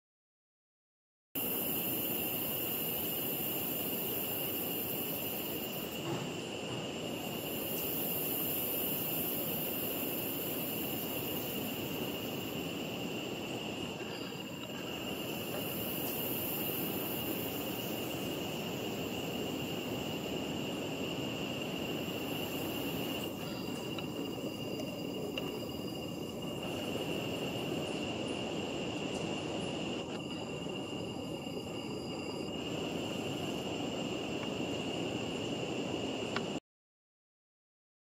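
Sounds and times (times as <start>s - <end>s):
insects buzzing shrilly: 1.4s - 36.6s
steady high whine: 1.4s - 36.6s
steady rushing noise: 1.4s - 36.6s.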